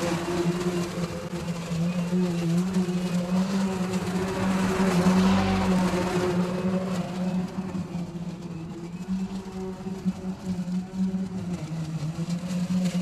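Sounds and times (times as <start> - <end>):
lawn mower humming: 0.0 - 13.0.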